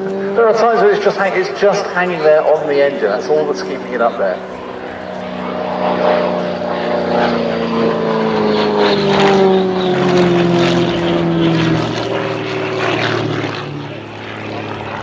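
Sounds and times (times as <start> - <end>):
propeller engine at high power: 0.0 - 15.0.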